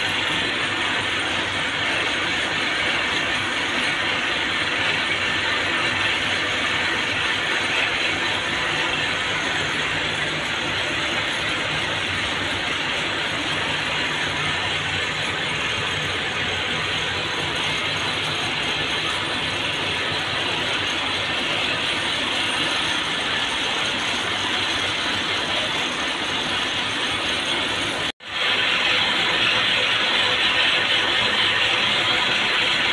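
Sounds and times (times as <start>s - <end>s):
machines clattering: 0.0s - 32.9s.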